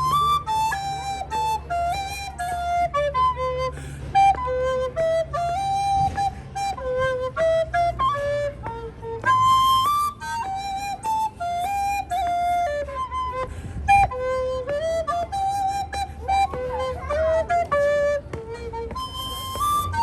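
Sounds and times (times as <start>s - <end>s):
quick flute melody: 0.0s - 20.0s.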